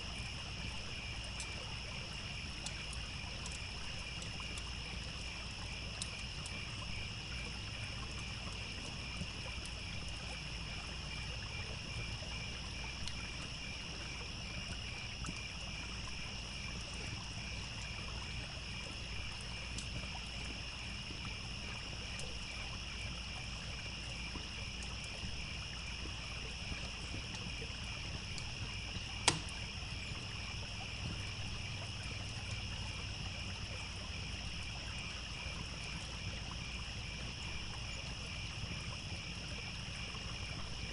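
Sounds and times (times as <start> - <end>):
campfire crackling: 0.0 - 40.9
crickets chirping: 0.0 - 40.9
trickling stream: 0.0 - 40.9.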